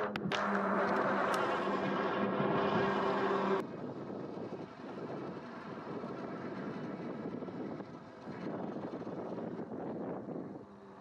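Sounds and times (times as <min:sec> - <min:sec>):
tyre and road noise: 0:00.0 - 0:09.6
wind rushing over microphone: 0:00.0 - 0:11.0.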